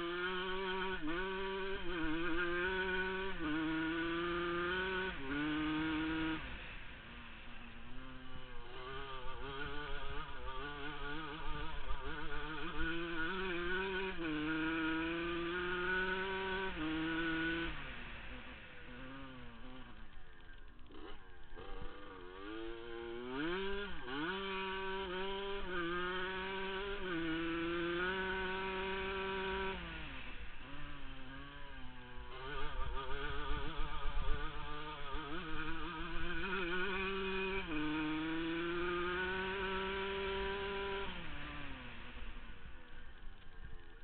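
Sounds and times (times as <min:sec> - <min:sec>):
two-stroke motorcycle engine revving: 0:00.0 - 0:44.0.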